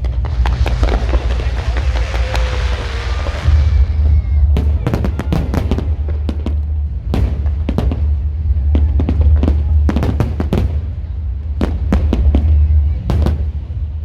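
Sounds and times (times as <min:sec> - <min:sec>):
deep rumble: 0:00.0 - 0:14.0
fireworks bangs: 0:00.0 - 0:14.0.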